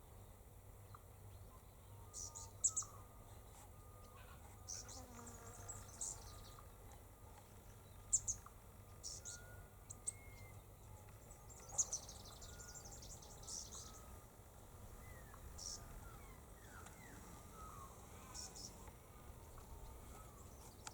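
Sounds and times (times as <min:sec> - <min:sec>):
low steady background rumble: 0:00.0 - 0:20.9.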